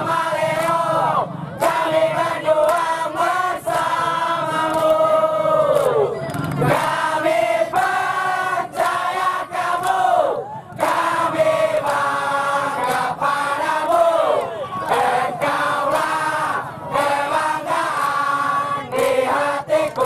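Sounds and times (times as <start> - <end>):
crowd chanting in unison: 0.0 - 20.0.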